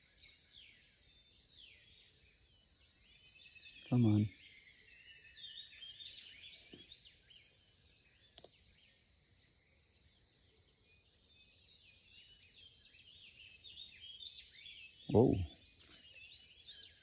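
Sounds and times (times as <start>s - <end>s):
birds chirping: 0.0s - 8.9s, 11.0s - 17.0s.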